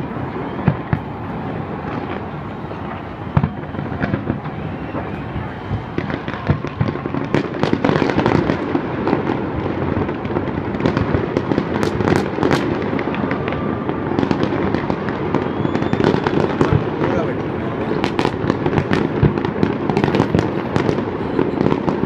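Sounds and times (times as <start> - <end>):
firework bangs and crackles: 0.0 - 22.0
rumble of firework bursts: 0.0 - 22.0.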